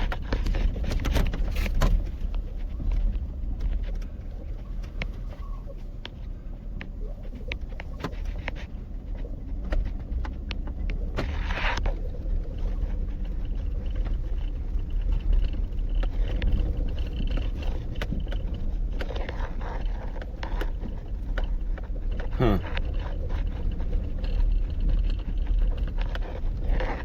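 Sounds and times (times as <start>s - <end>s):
engine and tyres rumbling: 0.0s - 27.0s
knocks and rattles over ruts: 0.0s - 27.0s.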